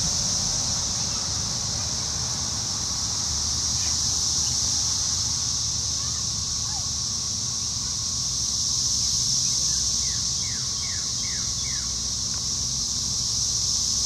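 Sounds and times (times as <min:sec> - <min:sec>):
high-pitched hiss: 0:00.0 - 0:14.0.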